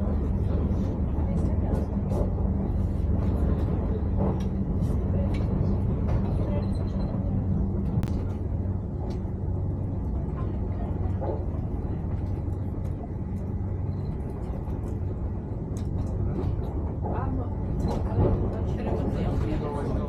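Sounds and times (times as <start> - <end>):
train rumbling and humming: 0.0 - 20.0.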